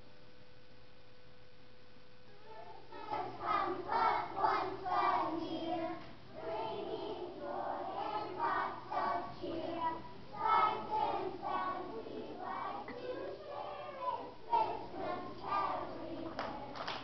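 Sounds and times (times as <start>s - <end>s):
children's choir singing: 2.5s - 17.0s.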